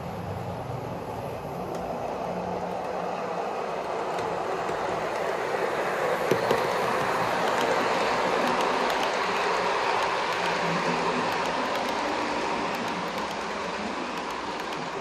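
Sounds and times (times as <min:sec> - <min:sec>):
model train rumbling on track: 0:00.0 - 0:15.0.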